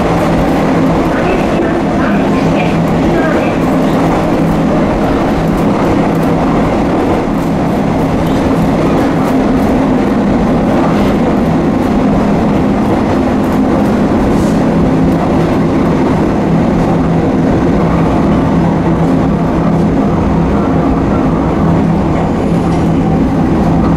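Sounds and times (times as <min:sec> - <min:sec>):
wheels clattering on rails: 0:00.0 - 0:20.0
diesel engine hum: 0:00.0 - 0:23.9.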